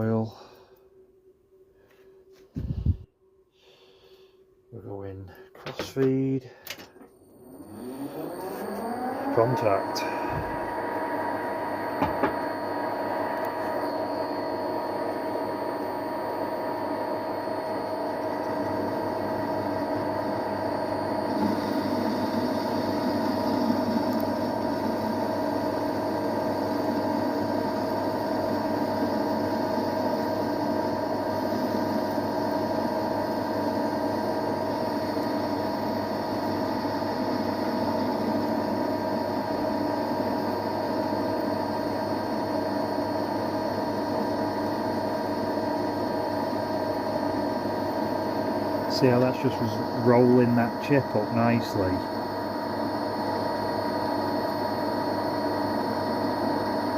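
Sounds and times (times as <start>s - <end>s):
metal lathe running: 7.4s - 56.9s.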